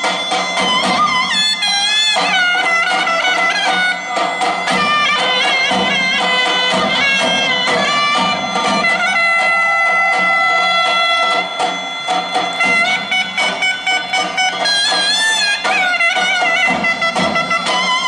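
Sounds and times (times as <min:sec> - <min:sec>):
folk dance music: 0:00.0 - 0:18.0
loud reedy wind instrument: 0:00.0 - 0:18.0.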